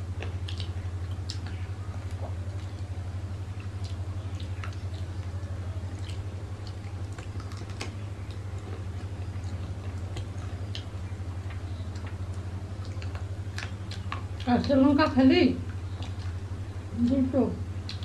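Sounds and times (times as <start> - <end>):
chewing smacks: 0.0 - 18.0
steady low hum: 0.0 - 18.0.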